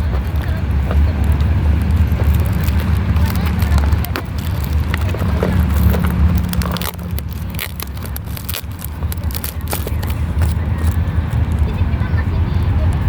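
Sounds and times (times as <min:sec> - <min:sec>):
packaging crackling and rustling: 0:00.0 - 0:11.6
low background rumble: 0:00.0 - 0:13.0.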